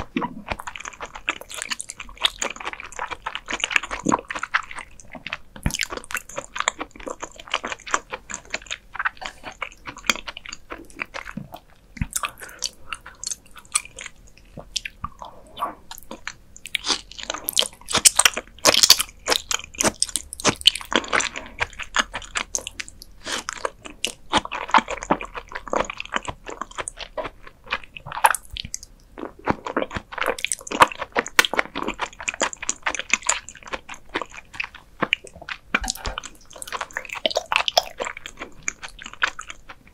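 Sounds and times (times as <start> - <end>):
chewing with mouth clicks: 0.0 - 39.9.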